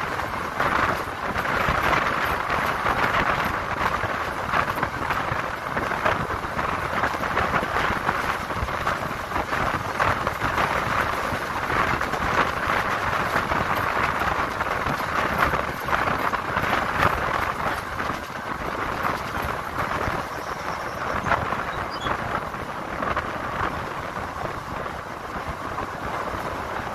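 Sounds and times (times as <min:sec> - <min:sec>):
passenger train running: 0:00.0 - 0:26.9
train rattling and clattering: 0:00.0 - 0:26.9.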